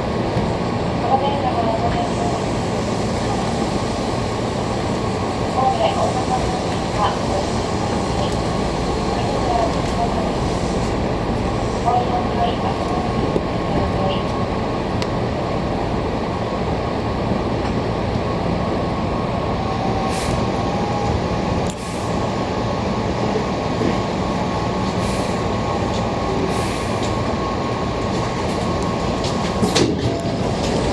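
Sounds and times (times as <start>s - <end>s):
train running rumble: 0.0s - 30.9s.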